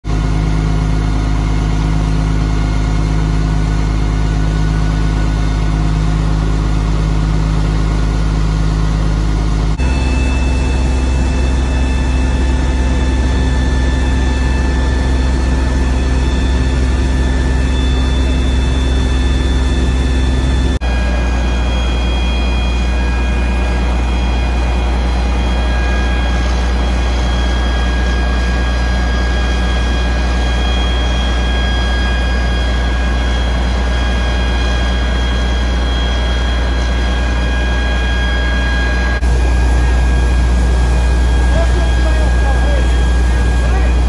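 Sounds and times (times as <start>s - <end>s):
fire truck engines humming: 0.1s - 44.0s
steady whines: 0.1s - 44.0s.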